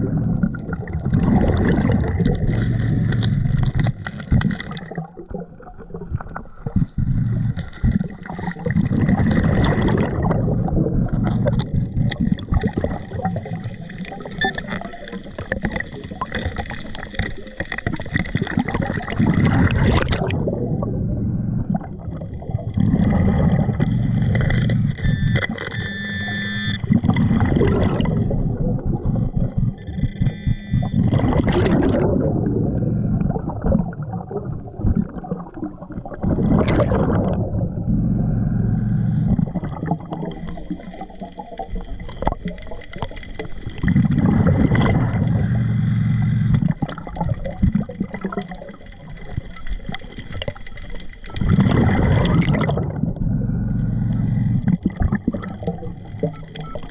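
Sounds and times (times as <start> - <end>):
exhaled bubbles gurgling underwater: 0.0 - 56.9.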